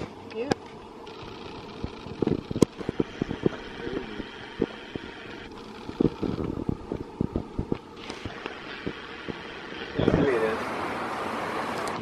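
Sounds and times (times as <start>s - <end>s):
wind buffeting microphone: 1.1s - 12.0s.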